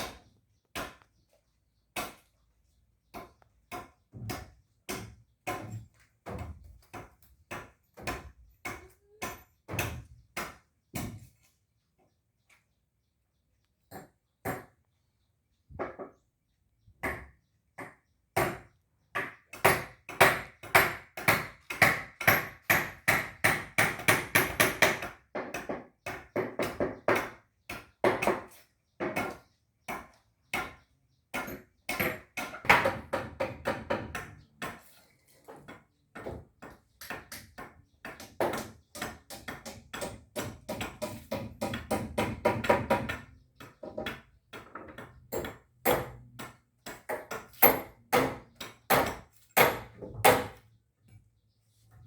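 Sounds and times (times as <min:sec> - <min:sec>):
hammering on timber: 0:00.0 - 0:01.2, 0:01.9 - 0:02.3, 0:03.1 - 0:11.3, 0:13.9 - 0:14.8, 0:17.0 - 0:34.9, 0:35.5 - 0:50.6.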